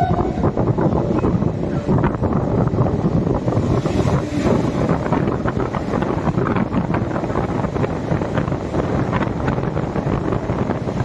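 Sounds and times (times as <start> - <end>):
train rumble: 0.0 - 11.0
wind buffeting microphone: 0.0 - 11.0.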